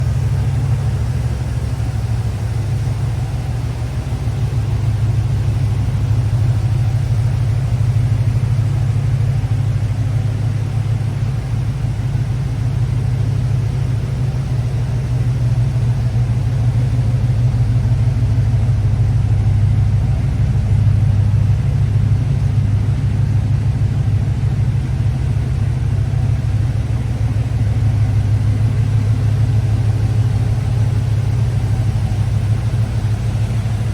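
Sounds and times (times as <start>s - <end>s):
engine idling: 0.0s - 33.9s.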